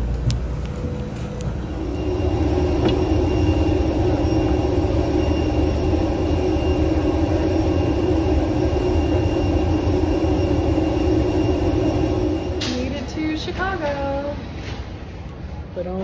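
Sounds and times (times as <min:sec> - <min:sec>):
airliner cabin rumble and hum: 0:00.0 - 0:15.6
faint high whine: 0:00.8 - 0:14.5.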